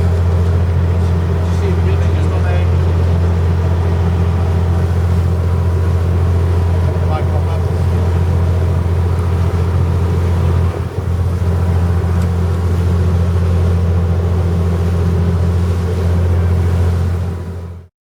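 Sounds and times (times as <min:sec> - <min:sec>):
boat engine droning: 0:00.0 - 0:17.9.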